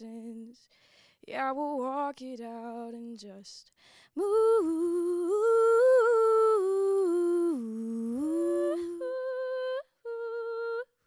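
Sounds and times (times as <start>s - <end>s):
woman singing unaccompanied: 0.0s - 0.6s, 1.2s - 3.6s, 4.2s - 11.0s.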